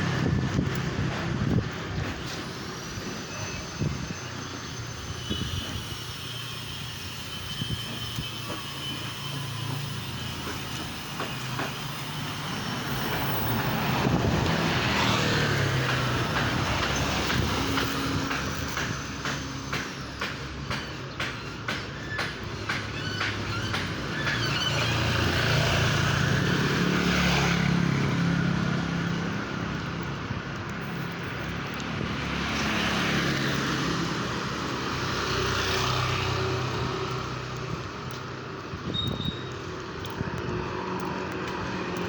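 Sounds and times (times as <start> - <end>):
vehicle engine rumble: 0.0 - 42.0.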